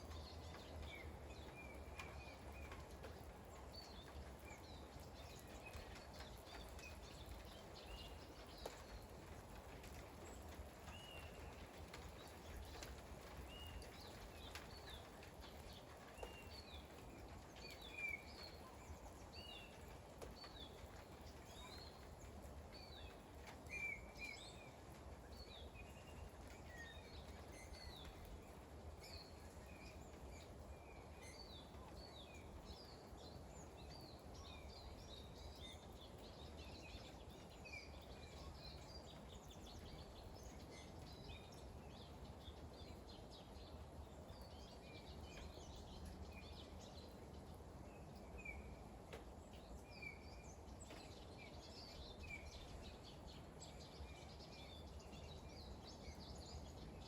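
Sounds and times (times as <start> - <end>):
low background hiss: 0.0 - 57.0
small birds chirping: 0.0 - 57.0.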